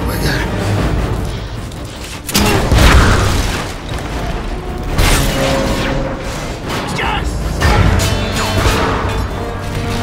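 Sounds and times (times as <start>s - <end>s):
film score: 0.0s - 10.0s.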